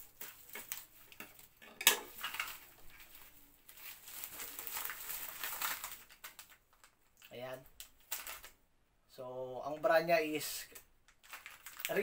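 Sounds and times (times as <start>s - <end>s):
plastic mailer crinkling and rustling: 0.0s - 8.6s, 10.6s - 12.0s.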